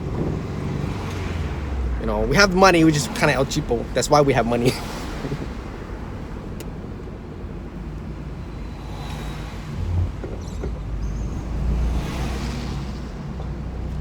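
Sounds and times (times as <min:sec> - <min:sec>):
car engine running: 0:00.0 - 0:14.0
road and tyre noise: 0:00.0 - 0:14.0.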